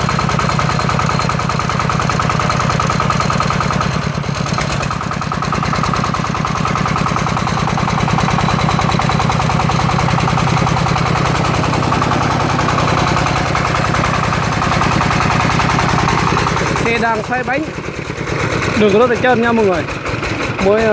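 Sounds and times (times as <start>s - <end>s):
diesel engine chugging: 0.0s - 20.9s.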